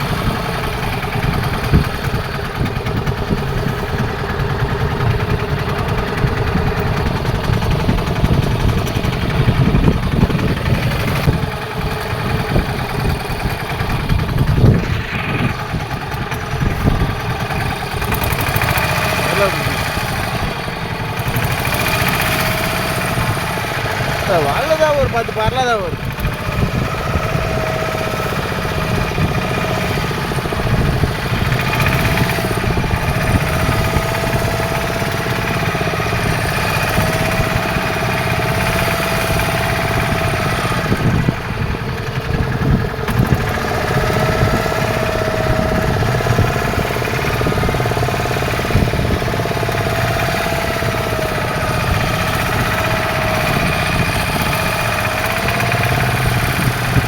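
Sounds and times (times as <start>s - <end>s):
boat engine running: 0.0s - 57.0s
high wavering engine whine: 0.0s - 57.0s.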